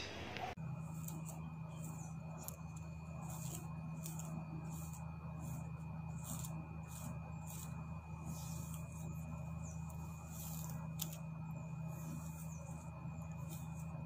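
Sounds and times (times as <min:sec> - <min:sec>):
steady low hum: 0:00.0 - 0:14.0
comb swishing through hair: 0:00.9 - 0:14.0.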